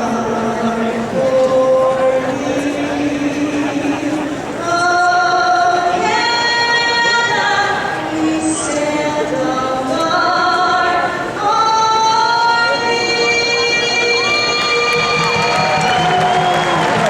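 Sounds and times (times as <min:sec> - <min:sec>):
woman singing an anthem: 0:00.0 - 0:17.0.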